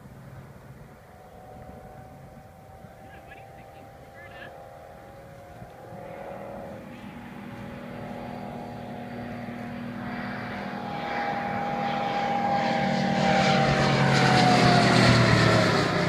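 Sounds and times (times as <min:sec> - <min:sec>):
propeller plane flying by: 0:00.0 - 0:16.0.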